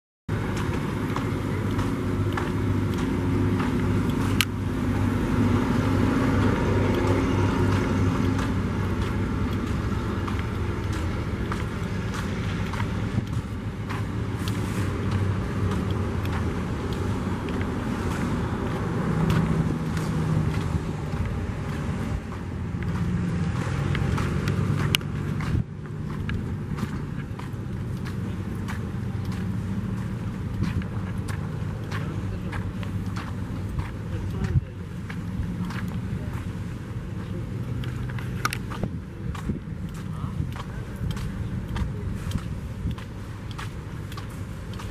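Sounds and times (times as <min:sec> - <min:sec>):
vehicle engine hum: 0:00.3 - 0:44.9.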